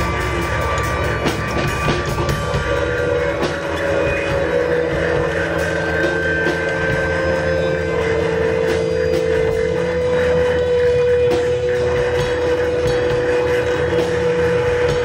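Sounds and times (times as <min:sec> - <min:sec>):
droning tone: 0:00.0 - 0:15.0.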